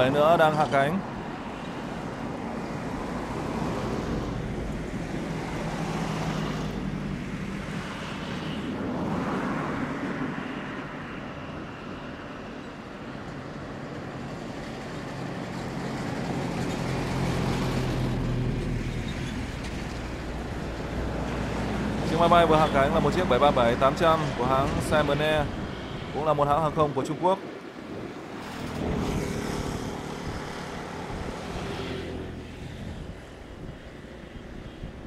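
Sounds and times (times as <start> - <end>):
jet engines drone and rush: 0.0 - 35.0.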